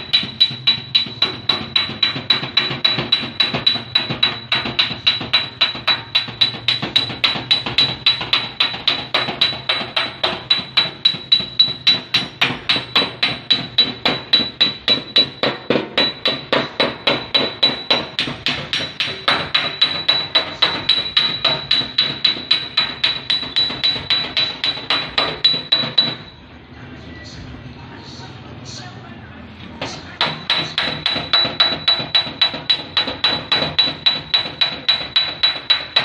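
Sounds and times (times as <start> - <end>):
hammer beating sheet metal: 0.0 - 26.4, 29.8 - 36.0.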